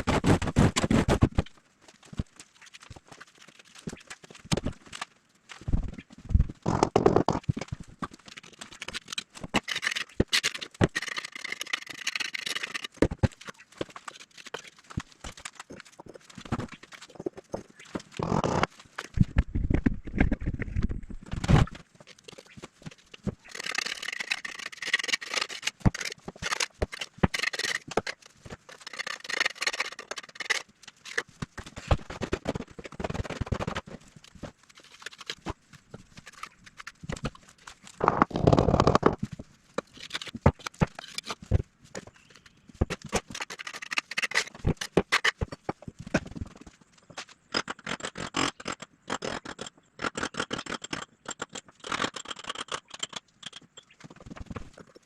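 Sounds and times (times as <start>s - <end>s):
knocking and scraping building materials: 0.0s - 5.0s, 5.6s - 55.0s.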